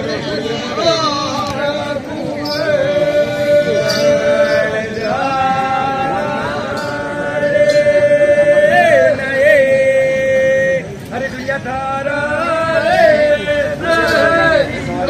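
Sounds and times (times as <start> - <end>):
chanted singing: 0.0 - 15.0.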